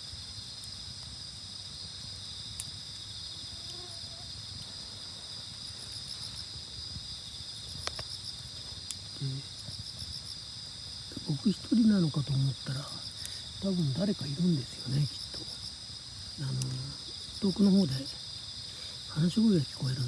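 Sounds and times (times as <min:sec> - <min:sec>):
campfire pops: 0:00.0 - 0:20.0
insects chirring: 0:00.0 - 0:20.0.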